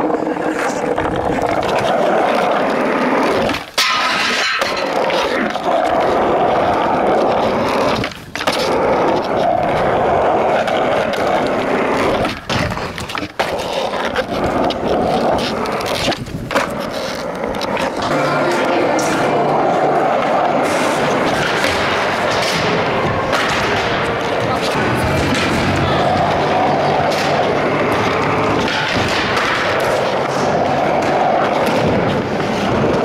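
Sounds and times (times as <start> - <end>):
skateboard clacks: 0.0 - 33.0
skateboard wheels rolling on pavement: 0.0 - 33.0.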